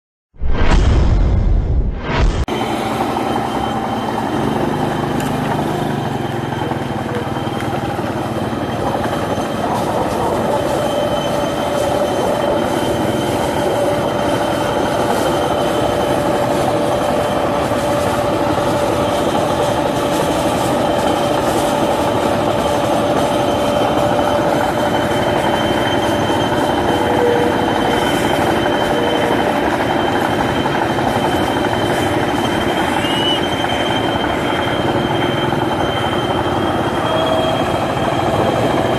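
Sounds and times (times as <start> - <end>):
steady mechanical whine: 0.4 - 38.9.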